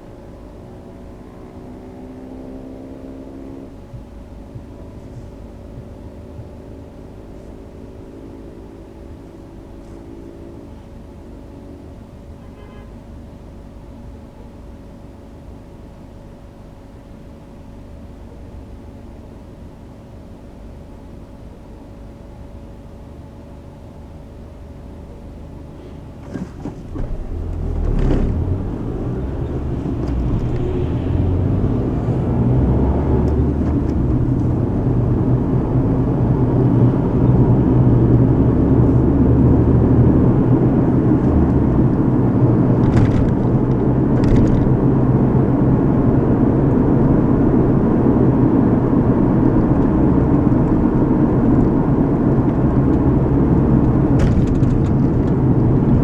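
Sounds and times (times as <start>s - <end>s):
car road noise inside cabin: 0.0s - 56.0s.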